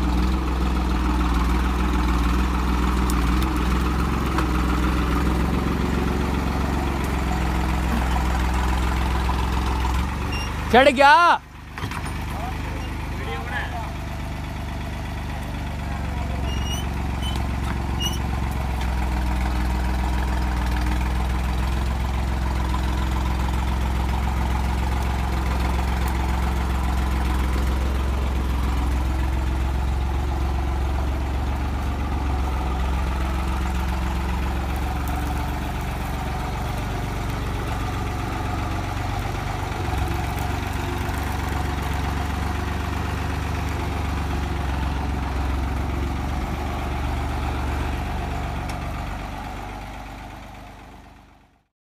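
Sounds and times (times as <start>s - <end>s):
tractor diesel engine running: 0.0s - 51.7s.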